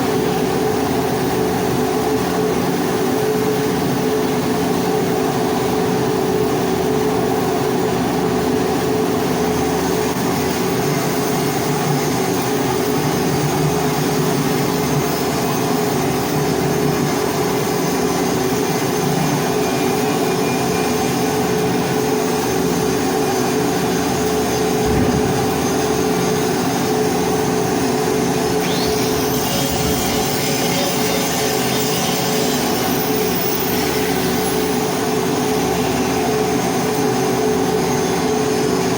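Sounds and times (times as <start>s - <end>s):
welding machine hum: 0.0s - 38.9s.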